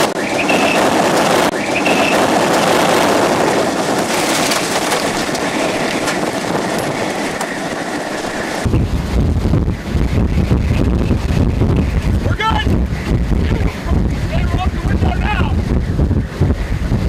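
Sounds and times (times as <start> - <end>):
tornado wind roaring: 0.0 - 17.0
wind buffeting microphone: 0.0 - 17.0.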